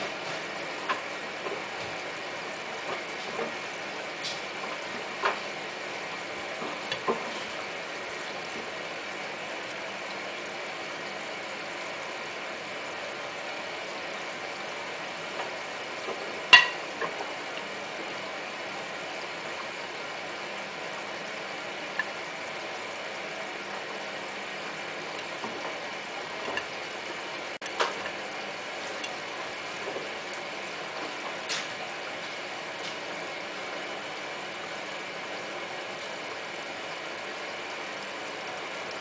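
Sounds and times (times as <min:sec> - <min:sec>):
washing machine drum turning: 0:00.0 - 0:10.0, 0:13.4 - 0:34.8.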